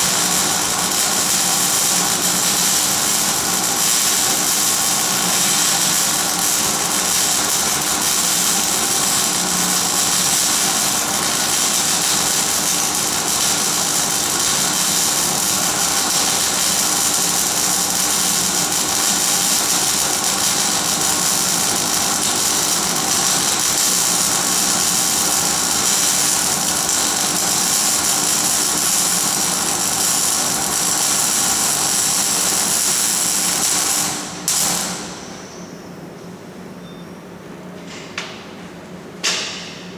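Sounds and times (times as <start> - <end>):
welding arc hissing crackle: 0.0 - 35.6.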